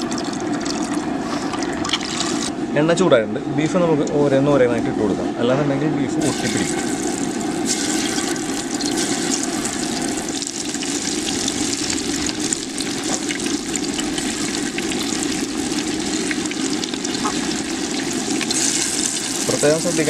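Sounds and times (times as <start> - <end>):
meat deep-frying in hot oil: 0.0 - 2.6, 6.2 - 20.0.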